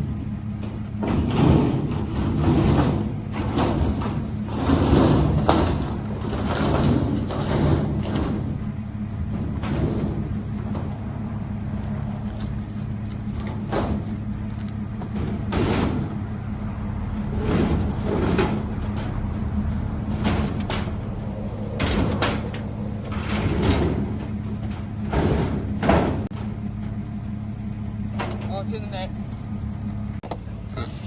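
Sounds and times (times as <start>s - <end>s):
sharp clunks and scrapes: 0.0s - 11.2s, 11.8s - 16.4s, 17.2s - 27.0s
vehicle engine running: 0.0s - 31.0s.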